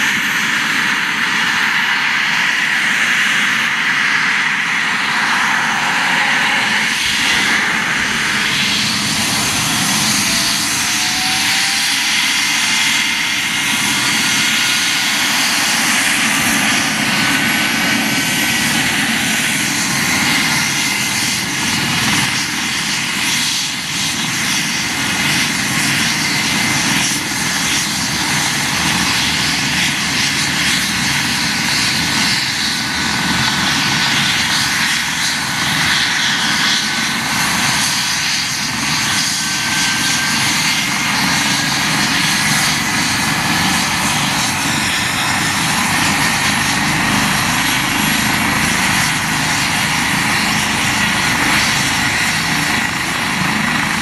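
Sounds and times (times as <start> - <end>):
helicopter running: 0.0 - 54.0
turbine whine: 0.0 - 54.0.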